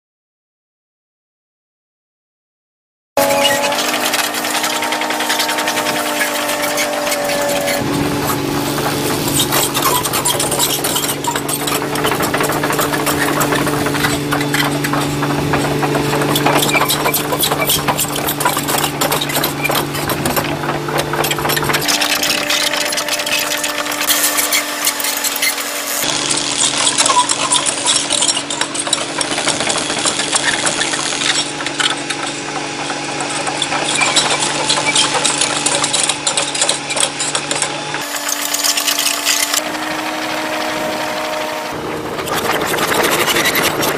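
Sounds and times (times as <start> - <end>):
steel tracks clattering: 3.2 - 26.0, 26.6 - 43.9
excavator diesel engine running: 3.2 - 43.9.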